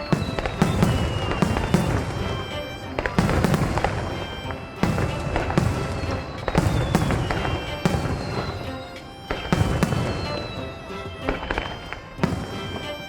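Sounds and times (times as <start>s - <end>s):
fireworks bursting: 0.0s - 13.0s
fireworks crackle: 0.0s - 13.0s
music: 0.0s - 13.0s.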